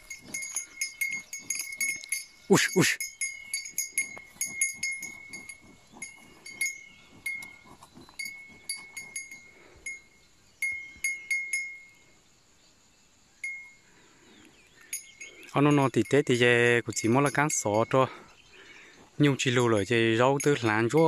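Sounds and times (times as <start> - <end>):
cow bell clanking: 0.0 - 12.0, 13.4 - 13.8, 14.8 - 18.3, 19.2 - 21.0.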